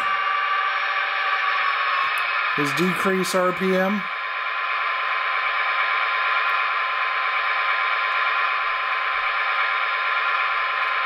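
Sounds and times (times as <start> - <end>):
model diesel engine through small speaker: 0.0 - 11.0.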